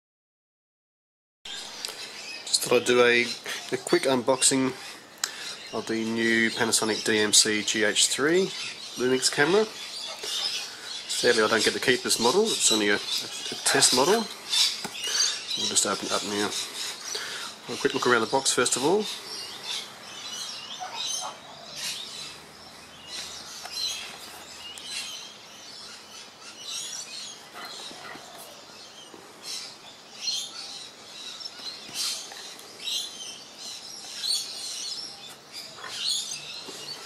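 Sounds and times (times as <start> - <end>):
small birds chirping: 1.5 - 37.0.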